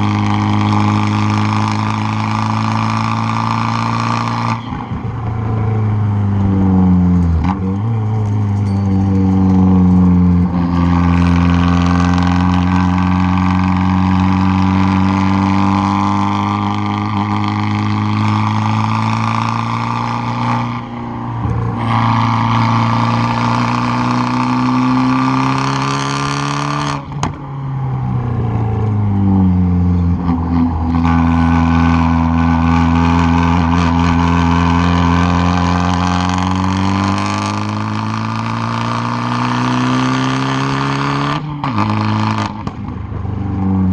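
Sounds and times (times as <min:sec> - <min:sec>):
car exhaust revving: 0:00.0 - 0:43.9.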